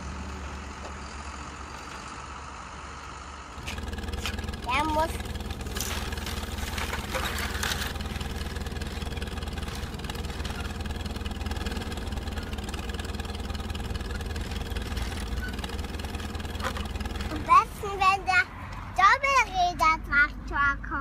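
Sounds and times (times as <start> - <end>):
engine idling: 0.0 - 18.6.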